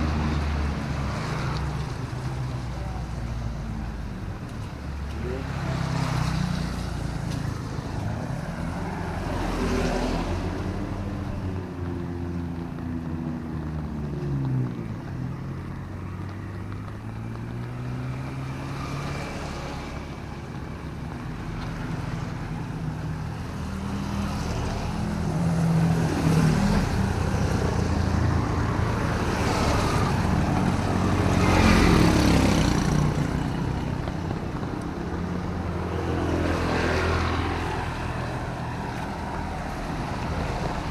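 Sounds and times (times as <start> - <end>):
drizzling rain: 0.0 - 40.9
tyre hiss on wet road: 0.0 - 40.9
vehicles driving past: 0.0 - 40.9.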